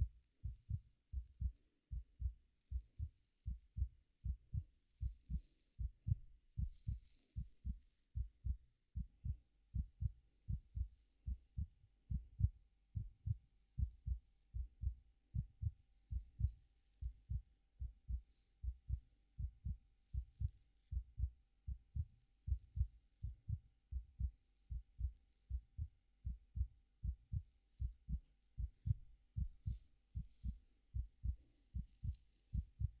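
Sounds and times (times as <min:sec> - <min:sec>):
heartbeat thumps: 0:00.0 - 0:33.0.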